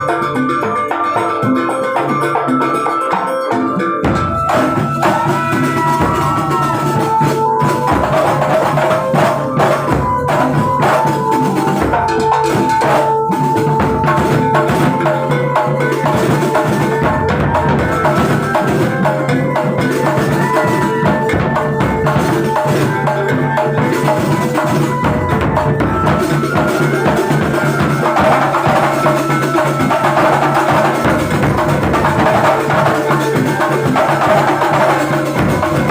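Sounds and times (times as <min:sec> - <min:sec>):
frame drum and hand drum percussion: 0:00.0 - 0:35.9.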